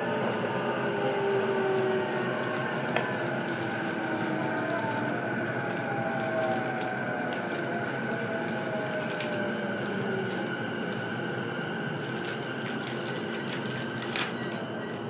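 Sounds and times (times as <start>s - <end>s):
electric train motor whine: 0.0s - 15.0s
wheels clicking on rails: 0.0s - 15.0s.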